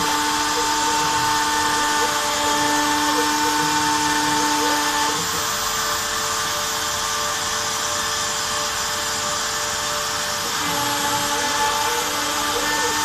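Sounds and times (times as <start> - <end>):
rotary tool spindle whine: 0.0 - 13.0.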